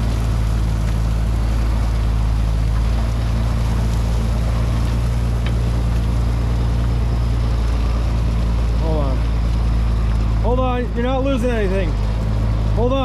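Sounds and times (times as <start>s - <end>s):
heavy equipment engine droning: 0.0s - 13.0s.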